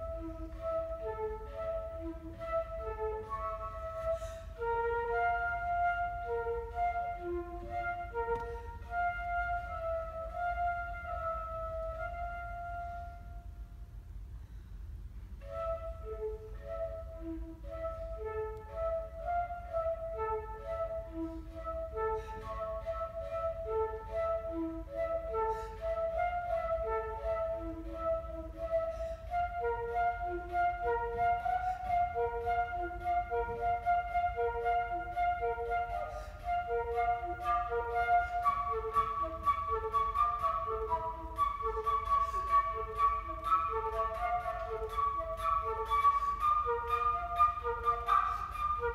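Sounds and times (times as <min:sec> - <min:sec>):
solo flute: 0:00.0 - 0:48.9.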